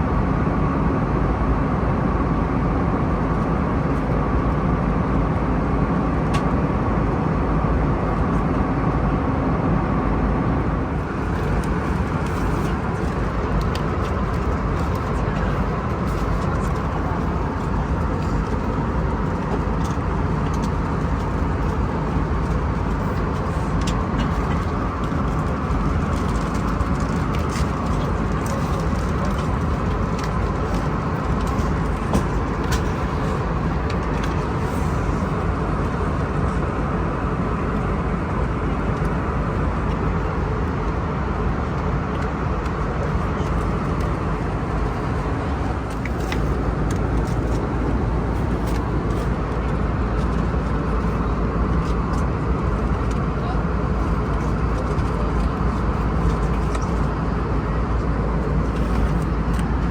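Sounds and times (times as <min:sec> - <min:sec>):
airliner cabin noise: 0:00.0 - 0:59.9.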